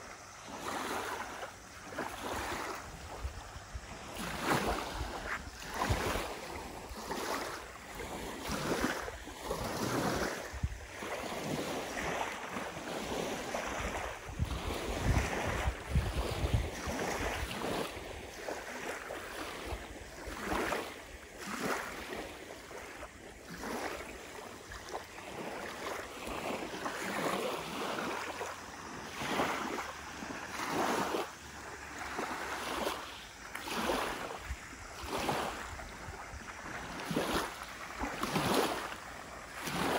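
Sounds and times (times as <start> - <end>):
waves lapping on gravel shore: 0.0 - 39.9
wind rumbling on microphone: 0.0 - 39.9.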